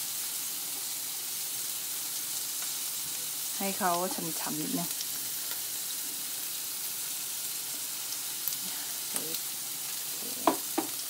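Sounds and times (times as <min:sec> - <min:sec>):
chicken sizzling on a grill: 0:00.0 - 0:11.0.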